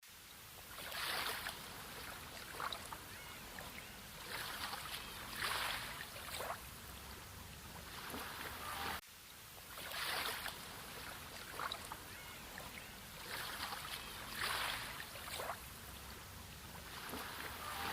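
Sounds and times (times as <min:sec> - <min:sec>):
small sea waves splashing ashore: 0:00.2 - 0:17.9.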